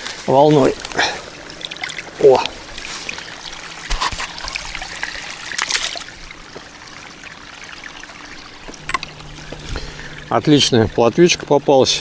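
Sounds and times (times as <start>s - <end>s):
river water trickling: 0.0s - 12.0s
sharp water splashes: 0.0s - 12.0s.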